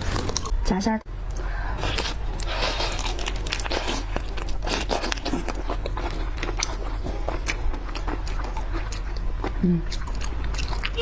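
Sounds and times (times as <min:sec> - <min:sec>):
seafood shells crunching: 0:01.8 - 0:11.0.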